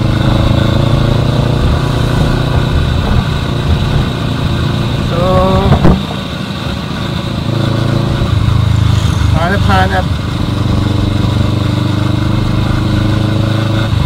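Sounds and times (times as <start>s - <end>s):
rushing noise: 0.0s - 11.5s
motorcycle engine running: 0.0s - 14.0s.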